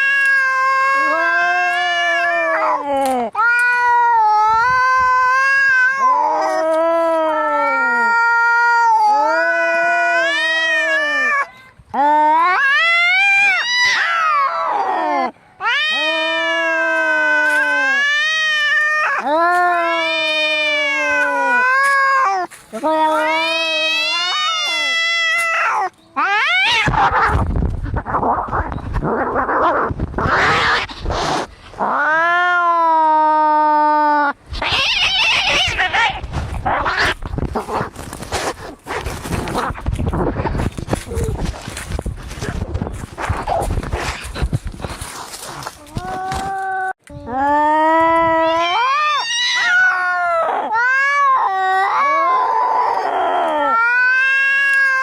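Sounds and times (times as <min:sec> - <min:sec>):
cats fighting and yowling: 0:00.0 - 0:55.0.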